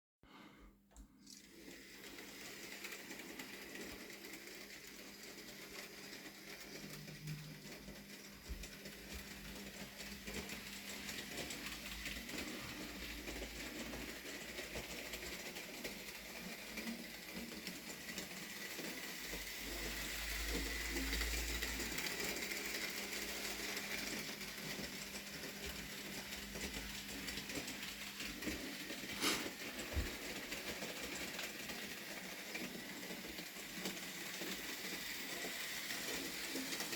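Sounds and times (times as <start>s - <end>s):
model train motor whirring: 1.2s - 36.9s.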